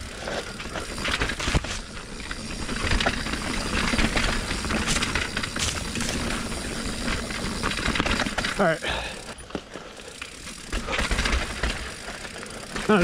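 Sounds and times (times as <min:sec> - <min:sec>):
bike rattling and knocking: 0:00.0 - 0:13.0
tyre and trail noise: 0:00.0 - 0:13.0.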